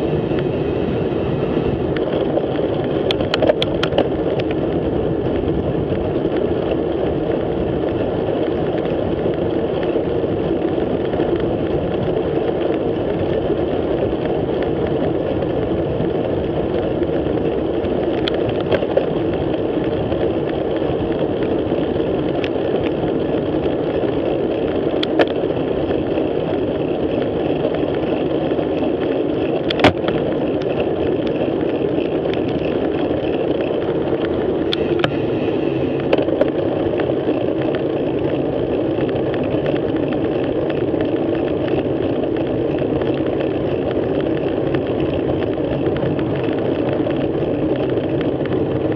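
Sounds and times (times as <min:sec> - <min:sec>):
bicycle road noise: 0:00.0 - 0:48.9
wind buffeting microphone: 0:00.0 - 0:48.9.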